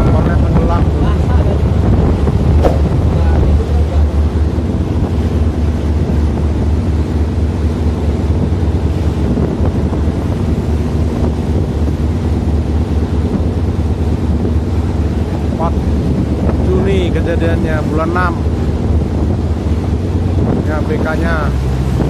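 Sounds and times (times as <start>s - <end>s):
boat engine droning: 0.0s - 22.0s
wind buffeting microphone: 0.0s - 22.0s.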